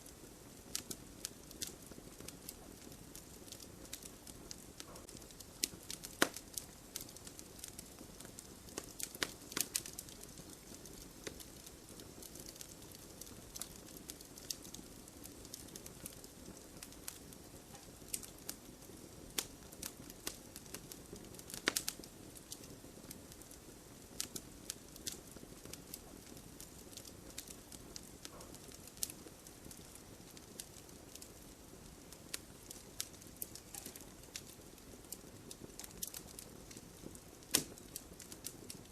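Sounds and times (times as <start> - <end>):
firewood crackling and popping: 0.0 - 38.9
flames rustling: 0.0 - 38.9.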